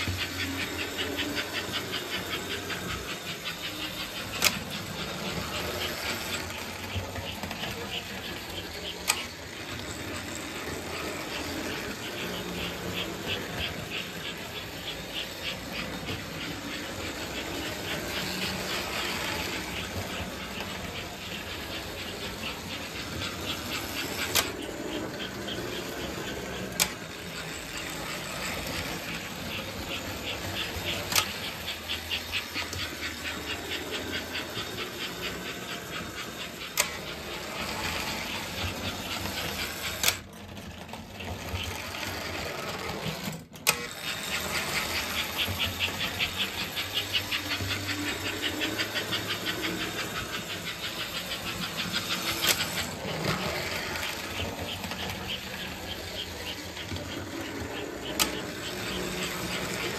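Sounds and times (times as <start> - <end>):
model train running on track: 0.0 - 59.9.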